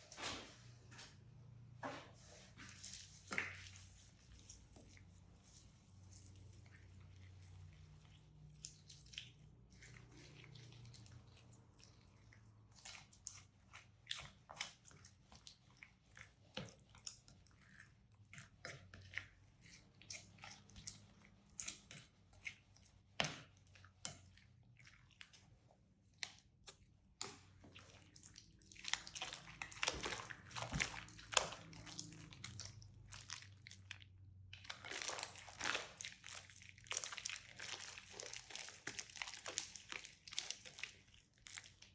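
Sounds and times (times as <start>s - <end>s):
slime squishing with sticky crackling: 2.2s - 41.9s.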